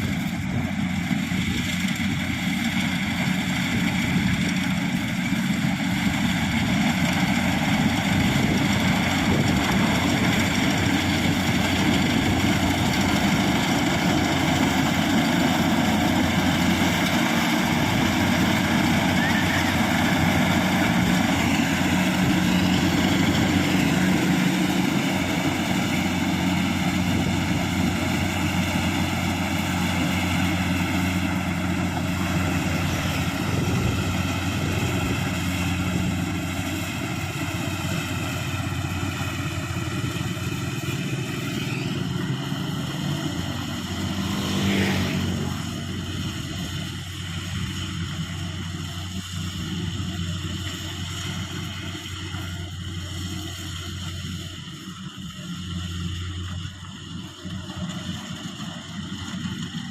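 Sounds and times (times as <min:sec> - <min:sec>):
engine running with whine: 0:00.0 - 0:59.9.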